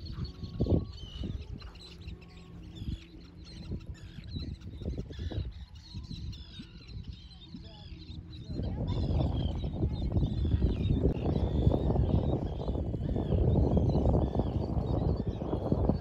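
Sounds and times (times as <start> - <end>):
gulls calling: 0.0 - 16.0
wind rumble on microphone: 0.0 - 16.0.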